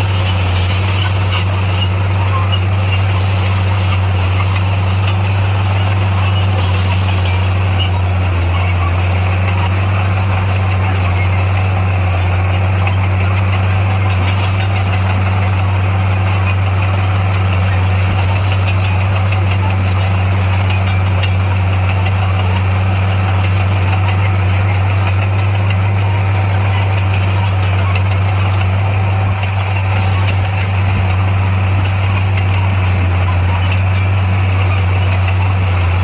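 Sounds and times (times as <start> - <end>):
diesel machine engine humming: 0.0 - 36.0.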